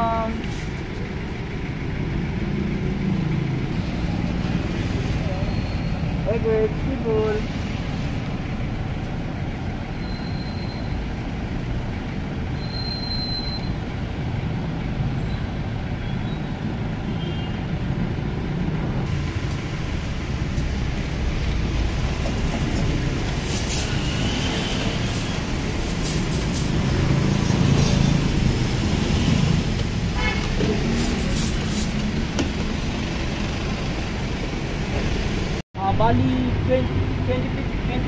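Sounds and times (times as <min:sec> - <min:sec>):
street noise rumble: 0:00.0 - 0:38.0.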